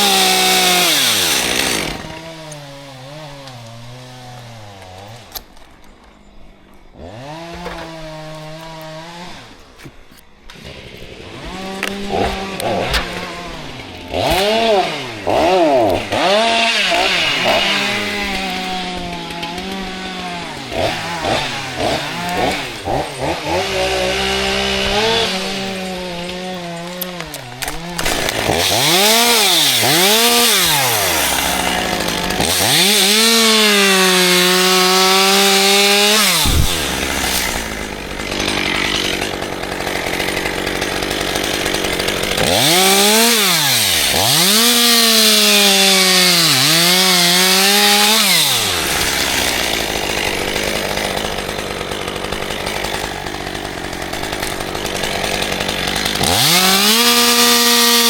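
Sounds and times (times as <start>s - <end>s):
chainsaw revving while cutting wood: 0.0s - 5.5s, 6.9s - 58.0s.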